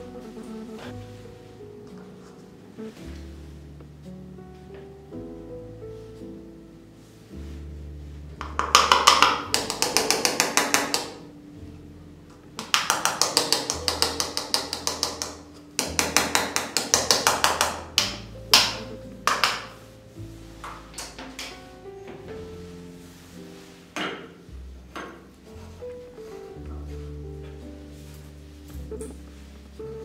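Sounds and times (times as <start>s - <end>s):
soft background music: 0.0s - 30.0s.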